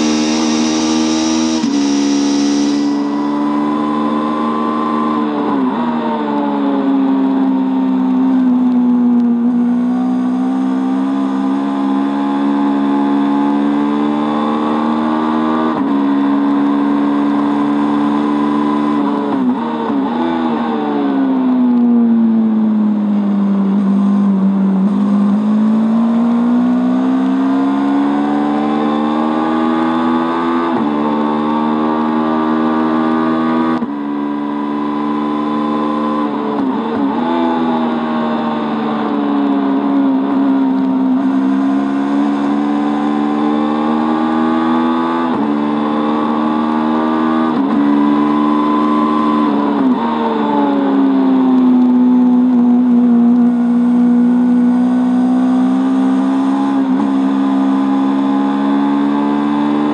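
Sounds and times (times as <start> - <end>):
motorcycle engine accelerating hard: 0.0 - 59.9.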